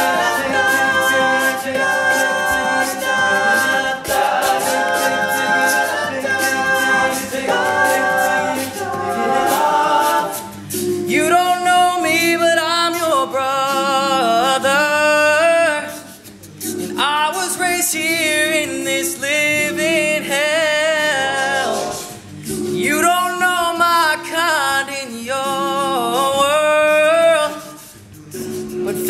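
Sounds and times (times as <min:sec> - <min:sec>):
male a cappella group singing: 0:00.0 - 0:29.0.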